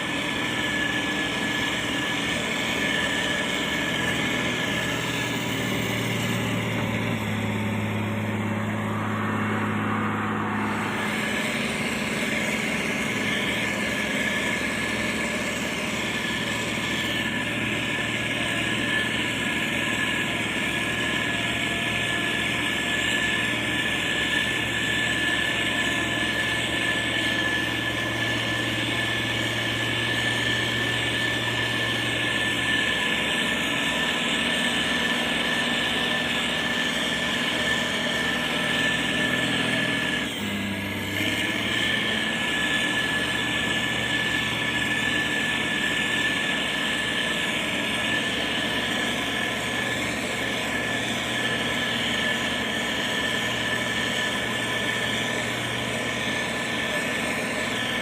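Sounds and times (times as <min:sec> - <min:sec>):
construction machinery diesel engine: 0:00.0 - 0:58.0
high machine whine: 0:00.0 - 0:58.0.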